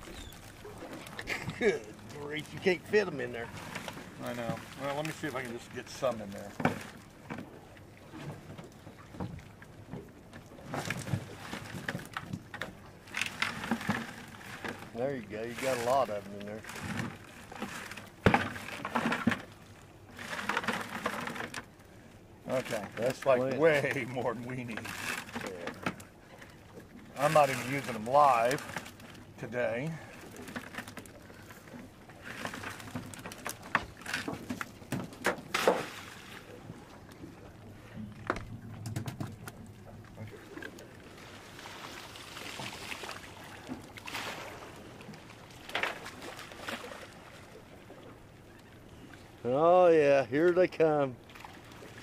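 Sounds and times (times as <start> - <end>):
fish flopping on boat deck: 0.0 - 49.3.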